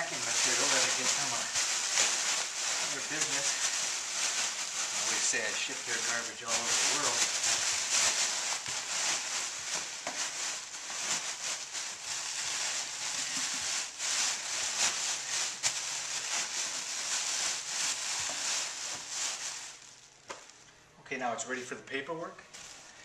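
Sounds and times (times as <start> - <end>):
plastic bags rustling and crinkling: 0.0 - 20.7, 22.5 - 23.0.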